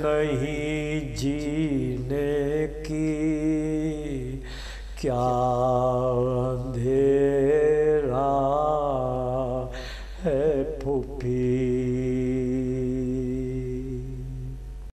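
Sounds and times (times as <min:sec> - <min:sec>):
man chanting unaccompanied: 0:00.0 - 0:14.6.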